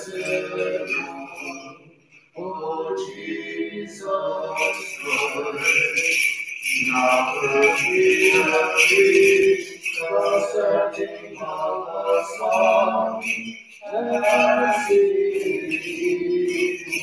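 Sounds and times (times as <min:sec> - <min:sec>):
small bells jingling: 0:00.0 - 0:17.0
voices chanting a hymn: 0:00.0 - 0:17.0.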